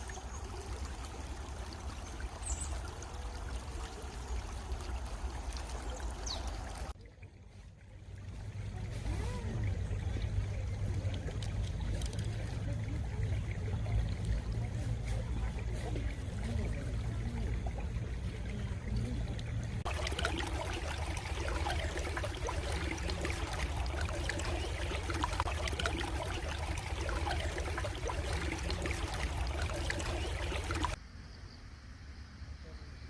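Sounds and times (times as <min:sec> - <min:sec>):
stream trickling over stones: 0:00.0 - 0:31.0.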